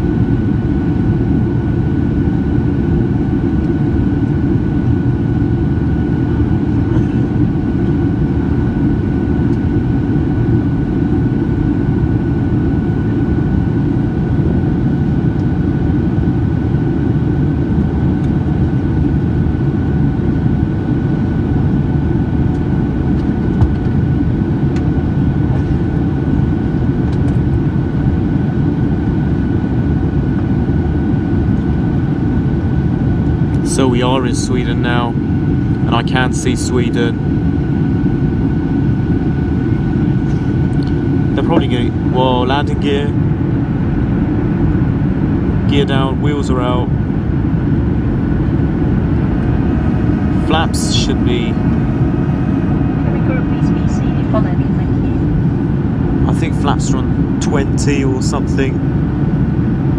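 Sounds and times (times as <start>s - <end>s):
jet engine rumble in cabin: 0.0s - 59.9s
thin steady whine: 0.0s - 59.9s.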